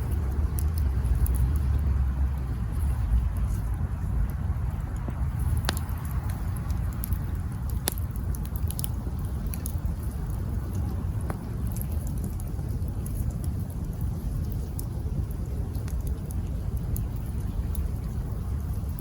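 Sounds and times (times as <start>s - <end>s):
campfire crackles and pops: 0.0s - 19.0s
campfire low rumble: 0.0s - 19.0s.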